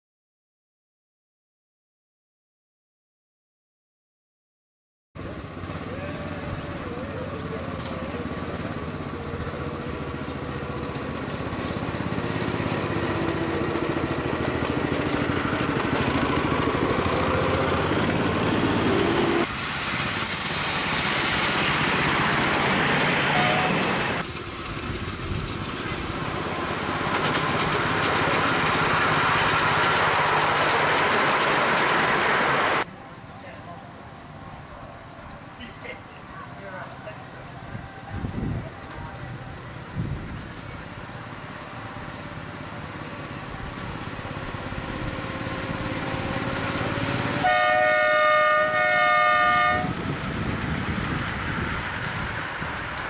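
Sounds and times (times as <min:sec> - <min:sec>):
miniature locomotive engine running: 0:05.2 - 0:32.9, 0:36.5 - 0:53.0.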